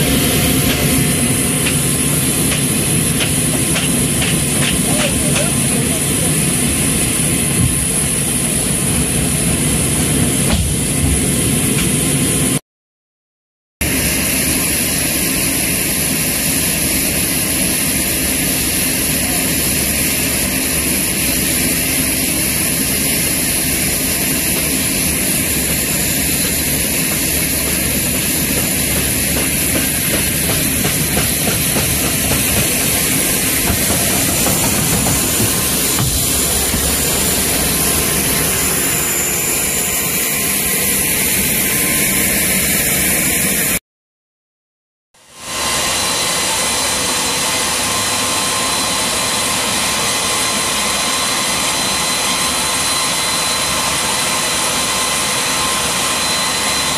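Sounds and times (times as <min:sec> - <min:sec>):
turbine engines running with whine: 0:00.0 - 0:12.6, 0:13.8 - 0:43.8, 0:45.2 - 0:56.9.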